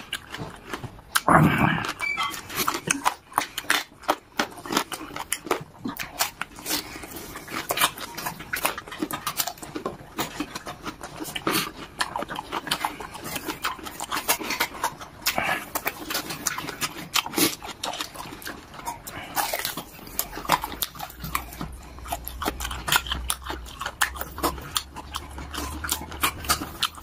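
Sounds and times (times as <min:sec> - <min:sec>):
crunching while eating: 0:00.0 - 0:27.0
wet chewing and lip-smacking: 0:00.0 - 0:27.0.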